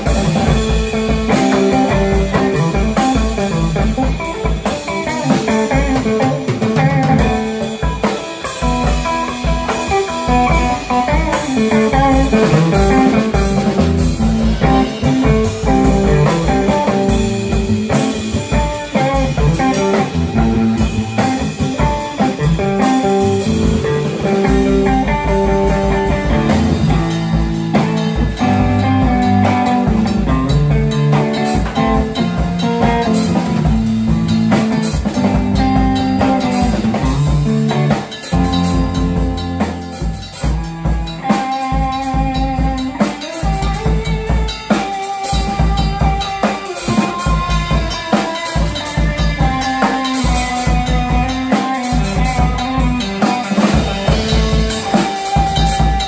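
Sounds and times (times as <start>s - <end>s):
drum kit beat: 0.0s - 56.0s
electric guitar riffs: 0.0s - 56.0s.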